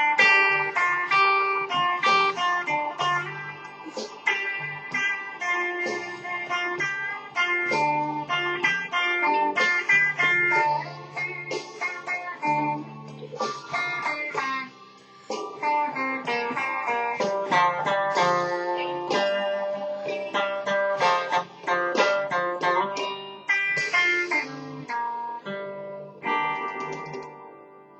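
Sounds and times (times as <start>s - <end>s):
electric guitar notes and chords: 0.0s - 27.9s.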